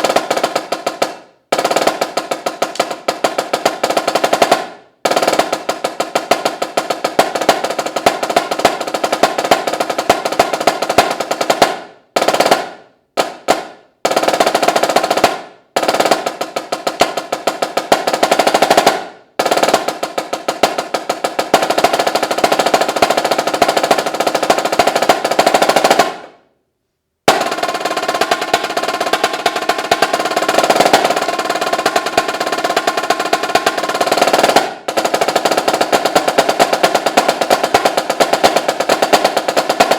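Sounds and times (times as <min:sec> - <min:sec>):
snare drum rolls: 0:00.0 - 0:26.5, 0:27.3 - 0:39.9.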